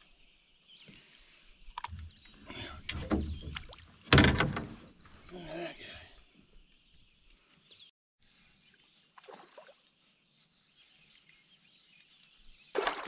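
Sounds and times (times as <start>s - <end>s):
quiet lake ambience: 0.0s - 13.0s.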